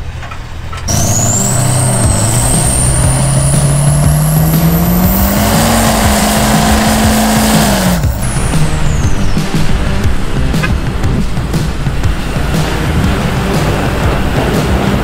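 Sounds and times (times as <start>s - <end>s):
high whine: 0.7s - 15.0s
vehicle engine accelerating: 0.8s - 15.0s.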